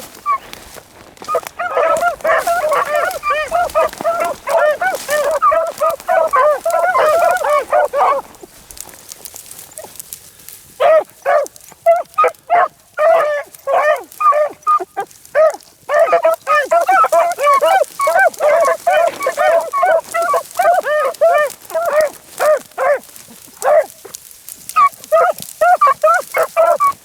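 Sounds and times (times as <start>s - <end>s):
pack of dogs baying: 0.0s - 27.0s.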